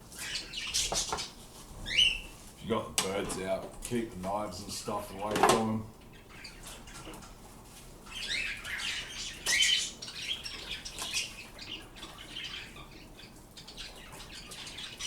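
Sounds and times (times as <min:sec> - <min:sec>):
pet birds chirping: 0:00.0 - 0:15.0.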